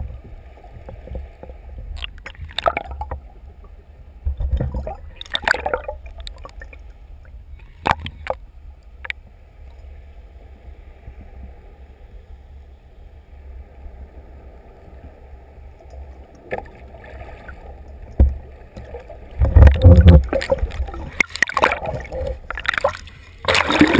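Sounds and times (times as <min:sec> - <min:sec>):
muffled underwater rumble: 0:00.0 - 0:23.9.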